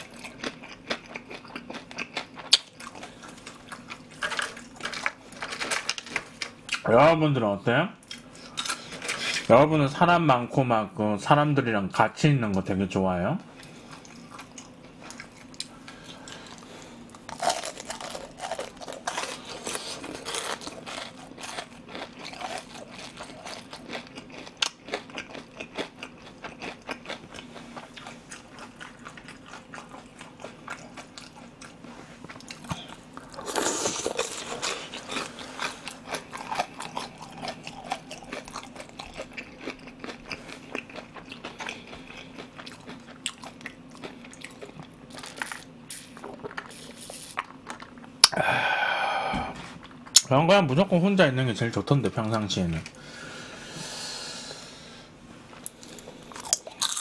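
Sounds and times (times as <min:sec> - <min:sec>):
crunching and chewing fried food: 0:00.0 - 0:07.2, 0:08.0 - 0:09.7, 0:13.5 - 0:49.0, 0:55.6 - 0:57.0.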